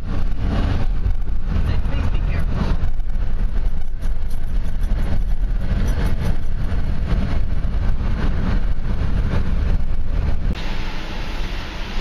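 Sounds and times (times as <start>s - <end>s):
tyre and wind noise in car: 0.0s - 12.0s.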